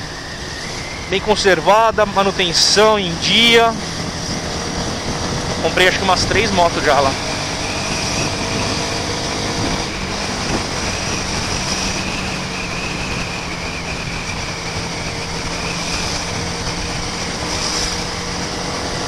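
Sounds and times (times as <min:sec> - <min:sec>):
motorcycle engine running: 0:00.0 - 0:19.0
road noise: 0:00.0 - 0:19.0
wind noise: 0:00.0 - 0:19.0.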